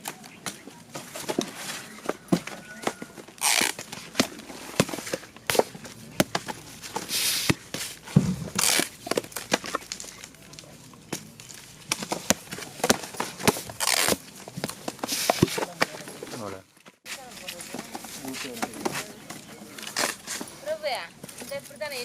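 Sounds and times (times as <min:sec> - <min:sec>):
paper rustling: 0:00.0 - 0:20.9.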